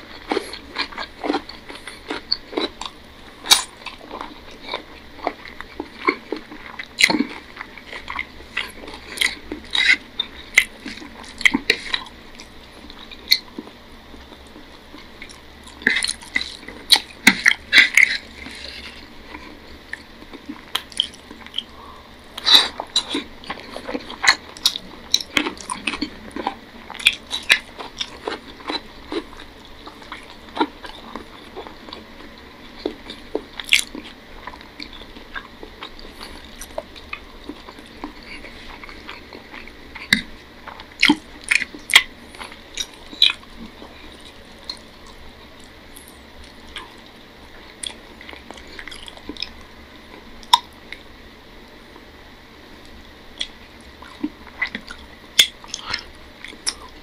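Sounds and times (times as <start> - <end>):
chewing and mouth smacks: 0.0 - 51.1, 52.8 - 57.0.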